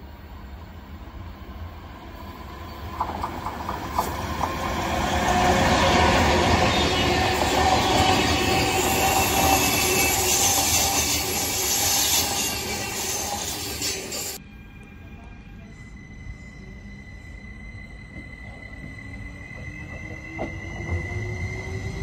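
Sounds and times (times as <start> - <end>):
passing train rumble: 0.0 - 22.0.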